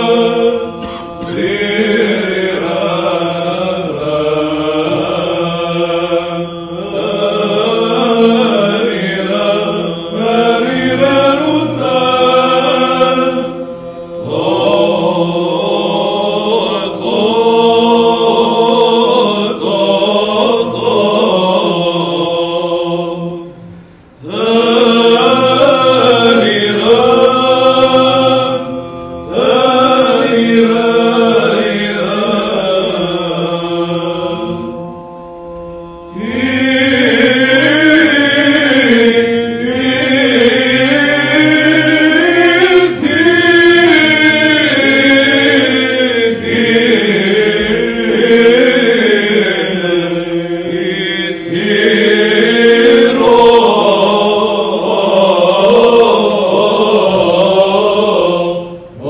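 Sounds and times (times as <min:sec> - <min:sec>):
men's choir chanting: 0:00.0 - 0:59.0.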